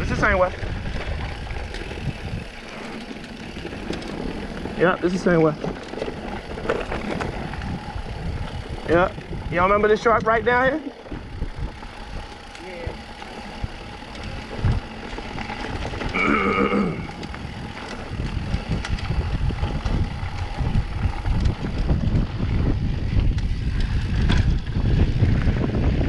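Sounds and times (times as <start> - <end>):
bike rumbling and rattling: 0.0 - 26.0
wind buffeting microphone: 0.0 - 26.0.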